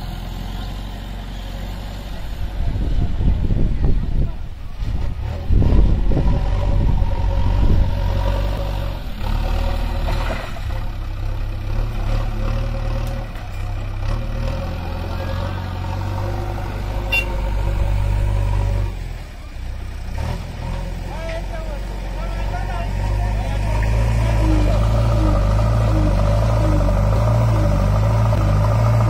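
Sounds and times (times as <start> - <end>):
diesel engines droning: 0.0 - 29.0.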